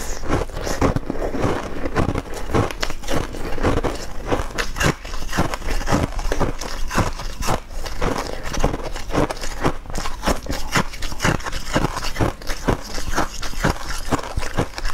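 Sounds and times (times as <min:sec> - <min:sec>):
wet mouth chewing: 0:00.0 - 0:14.9.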